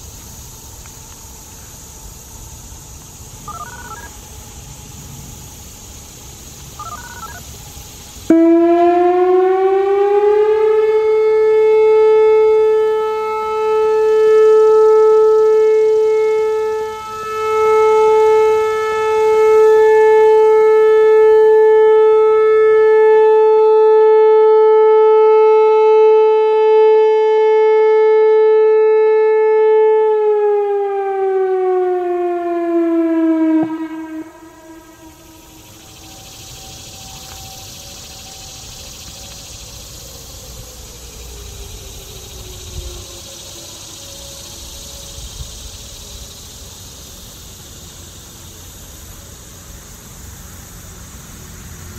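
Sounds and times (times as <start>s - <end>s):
electronic siren steady tone: 0.0s - 47.1s.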